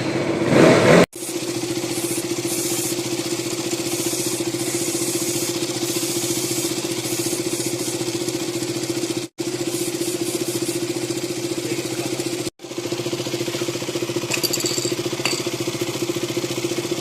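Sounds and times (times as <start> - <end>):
motorcycle engine idling: 1.2 - 17.0.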